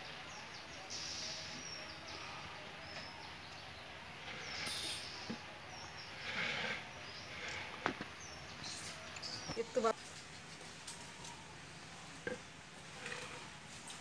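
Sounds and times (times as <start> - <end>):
faint bird chirps: 0.0 - 11.3.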